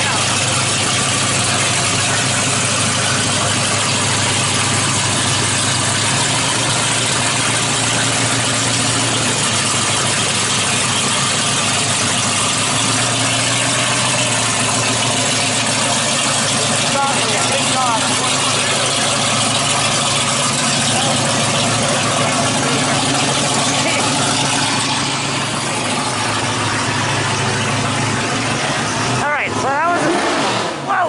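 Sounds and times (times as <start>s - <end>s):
car engine idling loudly: 0.0s - 31.0s.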